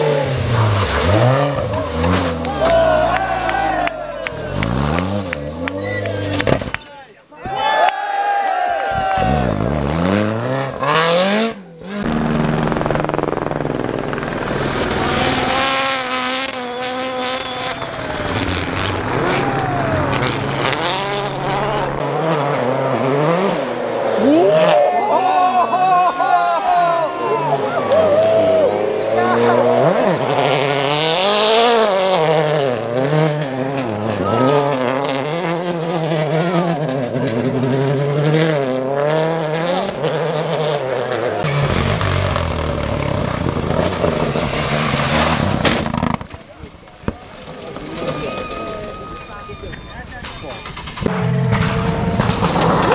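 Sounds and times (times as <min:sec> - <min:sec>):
car engine at high revs: 0:00.0 - 0:06.6, 0:09.2 - 0:25.1, 0:27.7 - 0:48.0.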